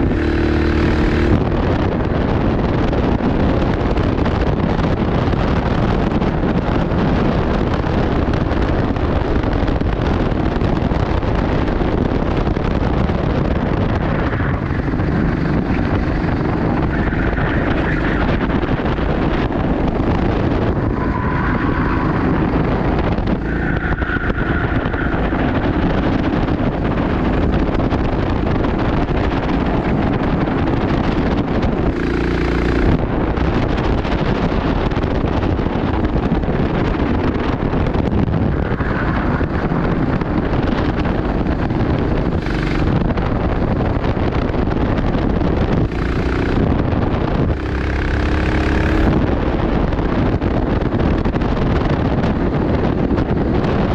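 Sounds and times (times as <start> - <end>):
go-kart engine running: 0.0 - 53.9
wind buffeting microphone: 0.0 - 53.9.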